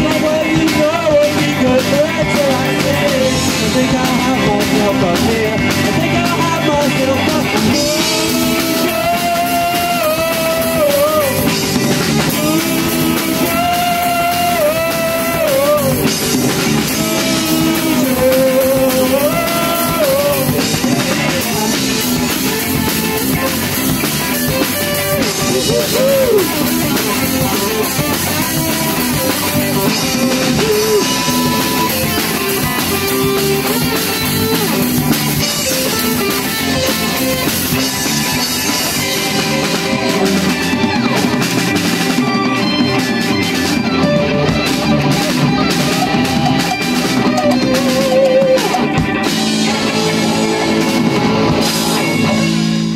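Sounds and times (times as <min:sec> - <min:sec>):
bending lead guitar line: 0:00.0 - 0:52.9
drum kit: 0:00.0 - 0:52.9
electric guitars: 0:00.0 - 0:52.9.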